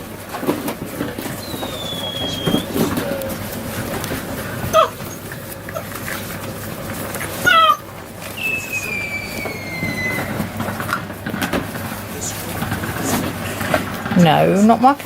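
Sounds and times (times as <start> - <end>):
puppies yelping: 1.0 - 14.7
puppy whining: 1.0 - 14.7.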